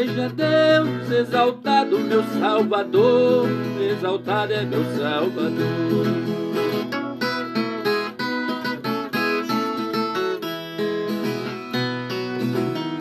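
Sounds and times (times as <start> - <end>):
plucked and strummed guitar: 0.0 - 13.0.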